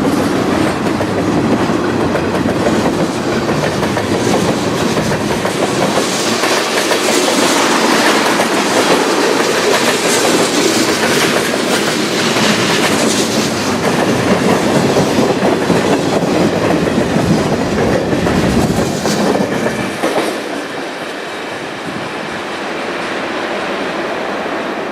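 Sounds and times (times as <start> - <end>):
train wheels clacking on rails: 0.0 - 24.5.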